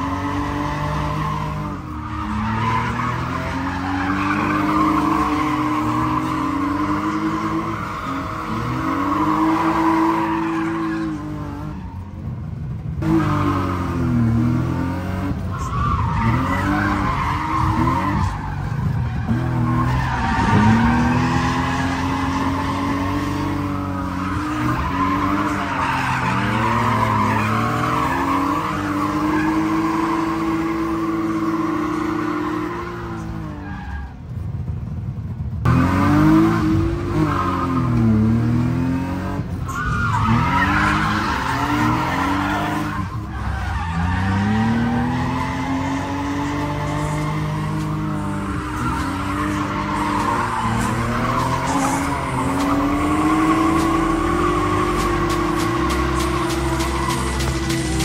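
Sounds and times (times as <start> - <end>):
tyres squealing: 0.0 - 12.2, 15.2 - 34.2, 37.0 - 58.0
car engines revving hard: 0.0 - 58.0.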